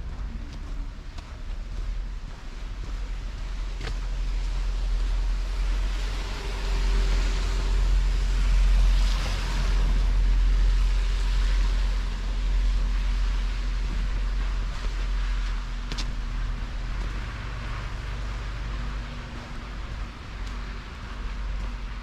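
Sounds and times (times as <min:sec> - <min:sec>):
rumble of street traffic: 0:00.0 - 0:22.0.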